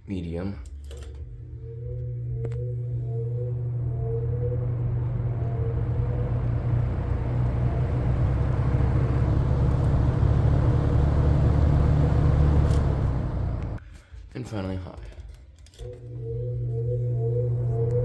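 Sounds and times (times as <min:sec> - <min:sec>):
box fan running: 0:00.7 - 0:13.8, 0:15.8 - 0:18.0.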